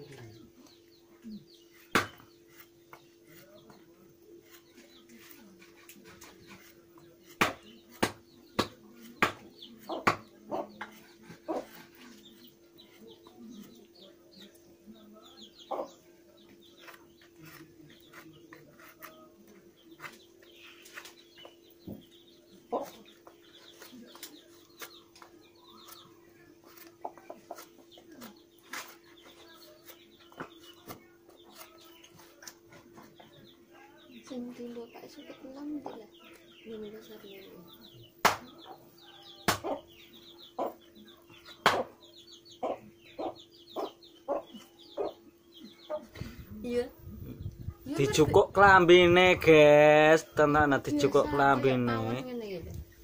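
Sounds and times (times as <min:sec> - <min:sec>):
chickens clucking: 0:00.0 - 0:53.0
chicks peeping: 0:00.0 - 0:53.0.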